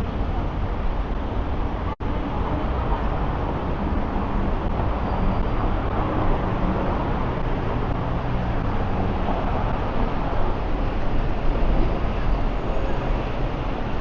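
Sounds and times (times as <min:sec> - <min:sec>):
busy road traffic: 0:00.0 - 0:14.0.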